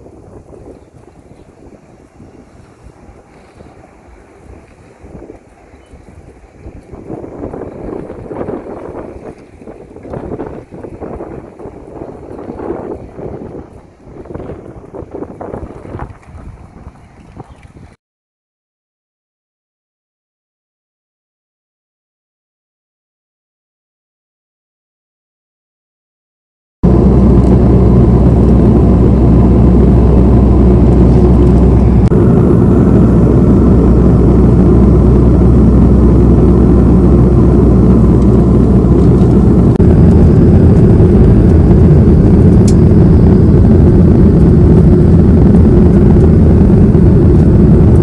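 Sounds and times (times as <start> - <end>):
jet engines and rushing air: 0.0 - 17.8, 26.8 - 48.0.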